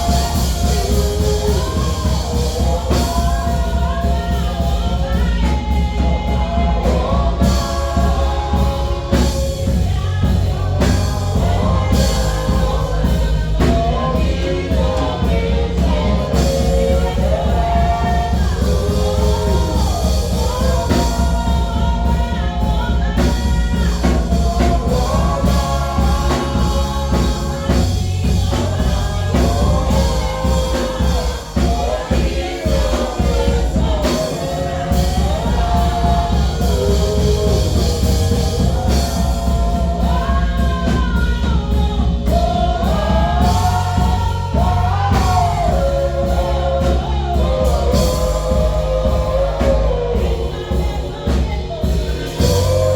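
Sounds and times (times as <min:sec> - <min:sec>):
band accompaniment: 0:00.0 - 0:52.9
gospel choir singing: 0:00.0 - 0:52.9
heavy bass and drums: 0:00.0 - 0:52.9.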